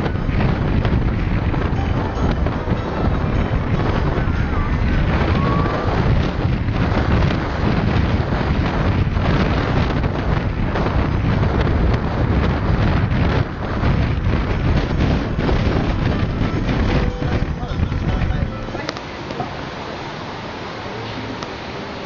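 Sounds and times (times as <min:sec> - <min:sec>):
wind buffeting microphone: 0:00.0 - 0:21.8
car road and engine noise: 0:00.0 - 0:22.0.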